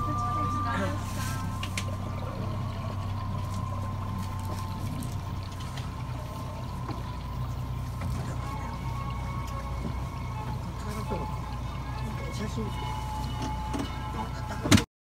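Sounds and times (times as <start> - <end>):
boat motor humming: 0.0 - 14.9
water swishing along hull: 0.0 - 14.9.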